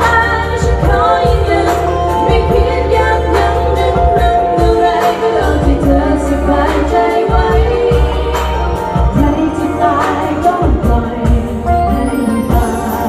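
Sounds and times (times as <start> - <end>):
backing music with steady beat: 0.0 - 13.0
female vocals singing: 0.0 - 13.0.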